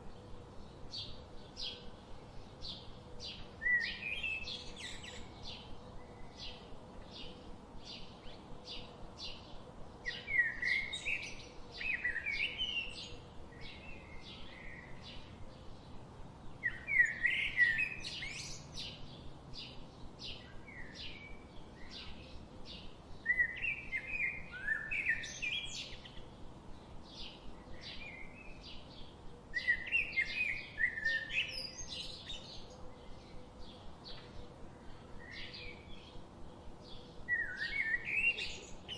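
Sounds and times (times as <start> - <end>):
warbling bird song: 0.0 - 38.9.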